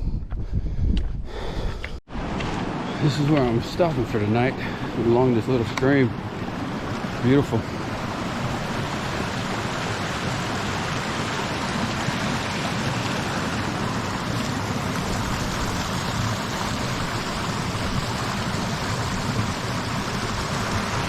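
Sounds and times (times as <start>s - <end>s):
stream water rushing: 2.1s - 21.0s.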